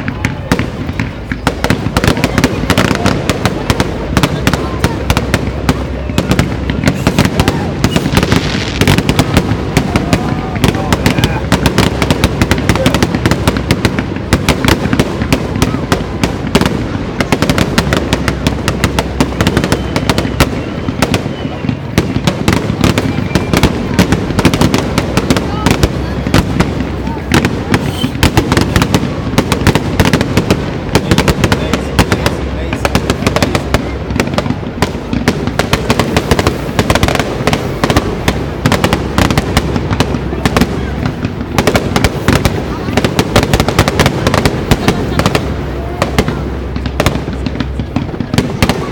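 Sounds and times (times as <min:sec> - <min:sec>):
fireworks bangs and pops: 0:00.0 - 0:48.9.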